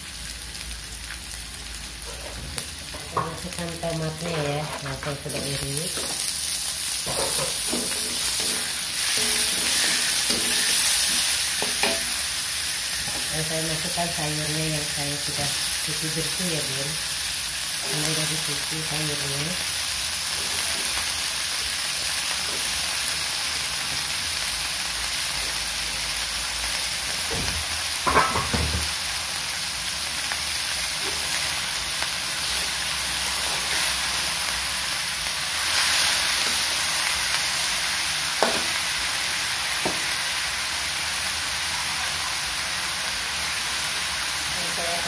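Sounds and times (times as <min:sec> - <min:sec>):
cabbage sizzling in hot oil: 0:00.0 - 0:45.0.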